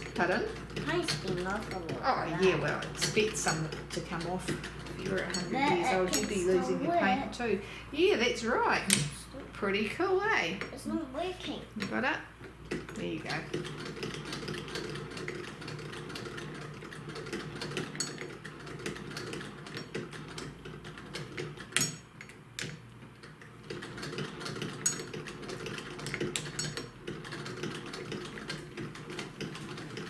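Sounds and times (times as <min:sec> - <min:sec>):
hand-crank sewing machine stitching: 0:00.0 - 0:07.0, 0:12.5 - 0:30.0.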